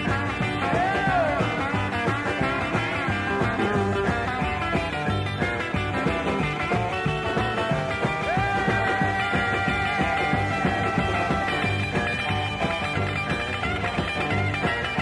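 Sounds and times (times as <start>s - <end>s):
instrumental rock and roll music: 0.0s - 15.0s.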